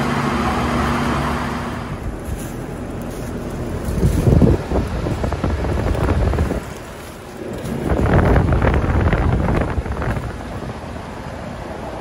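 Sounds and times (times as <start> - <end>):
airflow buffeting microphone: 0.0 - 12.0
heat pump fan running: 0.0 - 12.0.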